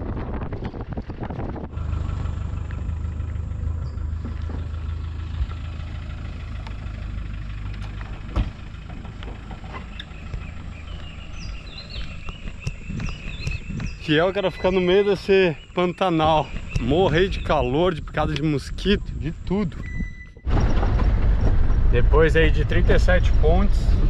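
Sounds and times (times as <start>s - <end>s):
wind buffeting microphone: 0.0s - 4.8s, 9.3s - 24.0s
vehicle engine humming: 0.0s - 24.0s
birds chirping: 1.8s - 24.0s.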